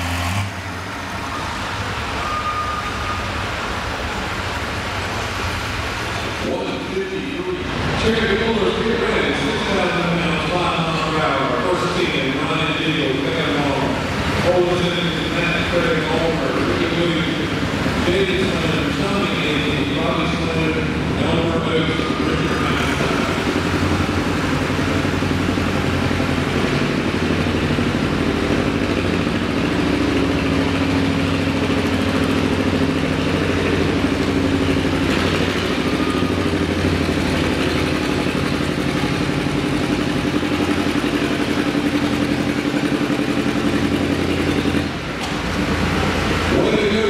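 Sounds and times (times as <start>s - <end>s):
tractor engine working under load: 0.0s - 47.0s.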